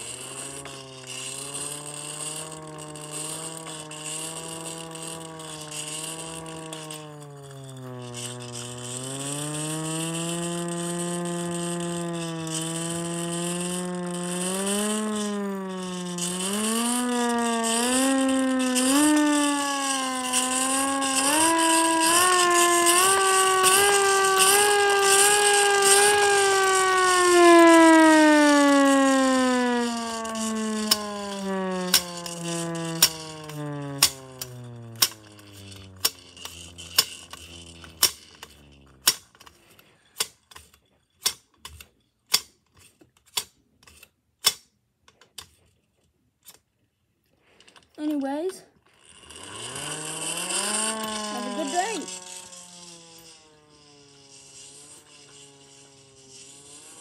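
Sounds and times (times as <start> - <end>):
hand-crank siren wailing: 0.0 - 39.4, 49.0 - 57.0.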